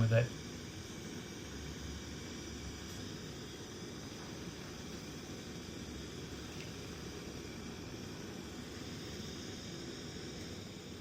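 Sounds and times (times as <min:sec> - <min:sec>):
blow lamp flame hissing: 0:00.0 - 0:11.0.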